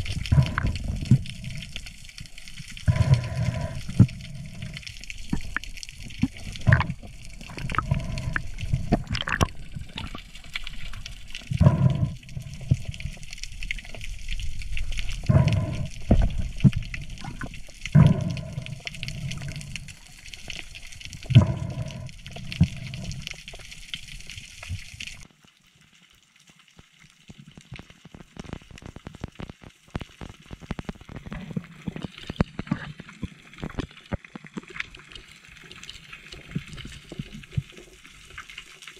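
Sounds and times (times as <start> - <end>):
moving water: 0.0 - 38.9.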